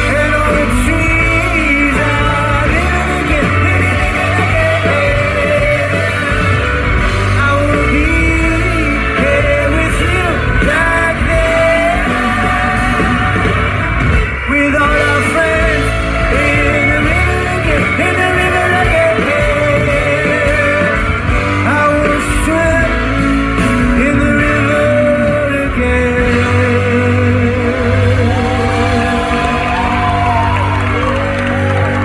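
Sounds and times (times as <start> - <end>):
guitar: 0.0 - 32.0
low bass line: 0.0 - 32.0
person singing: 0.0 - 32.0.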